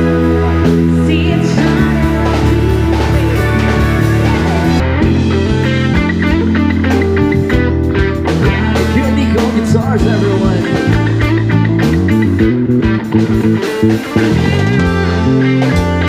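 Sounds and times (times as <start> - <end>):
bass guitar: 0.0 - 16.0
drum beats: 0.0 - 16.0
electric guitar: 0.0 - 16.0.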